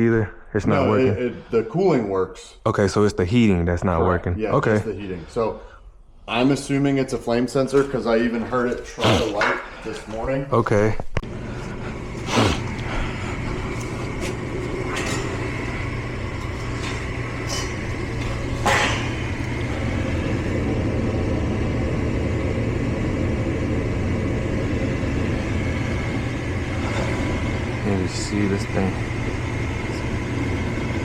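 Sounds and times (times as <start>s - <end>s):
furnace blower humming: 4.4s - 31.0s.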